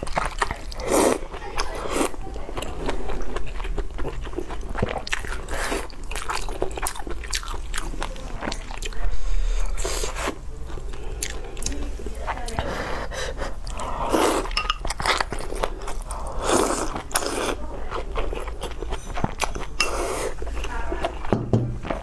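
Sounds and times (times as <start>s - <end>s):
wet chewing mouth sounds: 0.0s - 22.0s.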